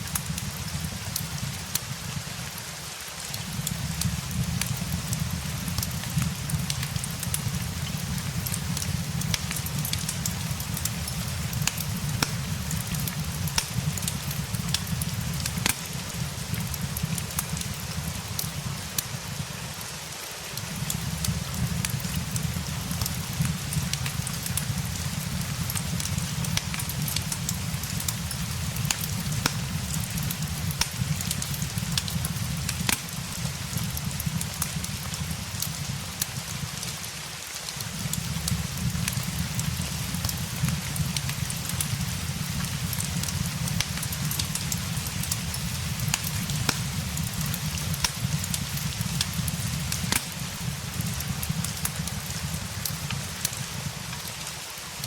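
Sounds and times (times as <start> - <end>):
fireplace crackling: 0.0 - 55.0
steady rain hiss: 0.0 - 55.0.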